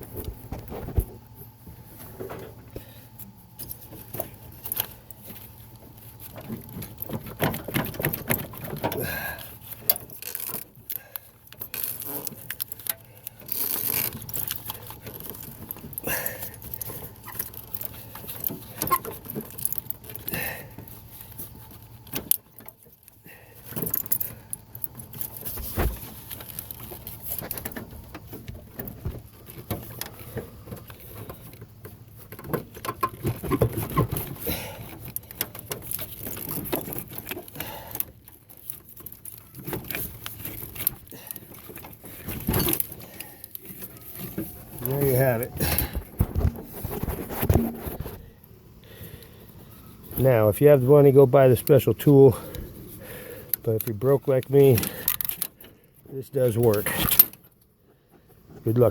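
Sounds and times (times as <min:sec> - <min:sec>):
plastic and metal clicking and scraping: 0:02.0 - 0:48.5, 0:49.2 - 0:58.9.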